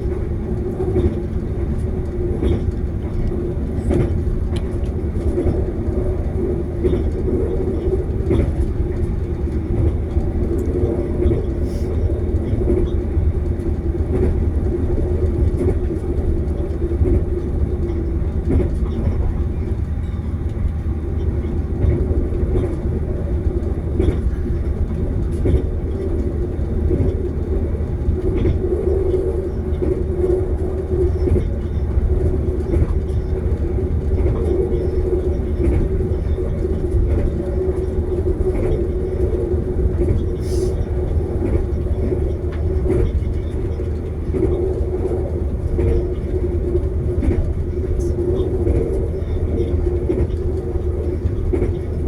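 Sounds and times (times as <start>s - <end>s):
train rumbling inside carriage: 0.0s - 52.0s.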